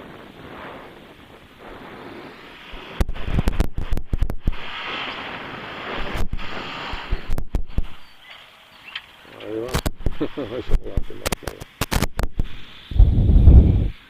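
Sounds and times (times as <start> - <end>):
wind buffeting microphone: 0.0 - 8.2, 9.7 - 14.0.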